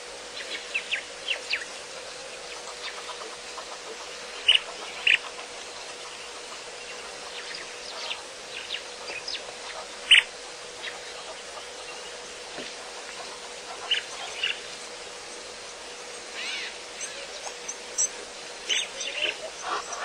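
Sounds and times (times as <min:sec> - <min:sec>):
faint steady hum: 0:00.0 - 0:20.0
birds chirping and calling: 0:00.4 - 0:20.0.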